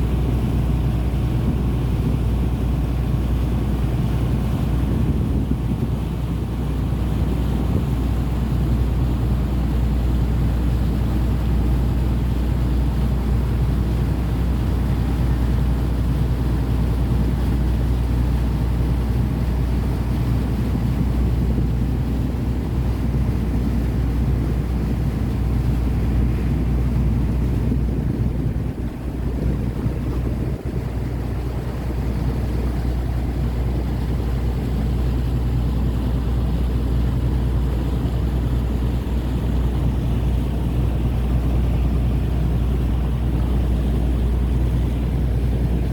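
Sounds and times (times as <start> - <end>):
boat engine humming: 0.0 - 45.9
water noise: 0.0 - 45.9
wind: 0.0 - 45.9.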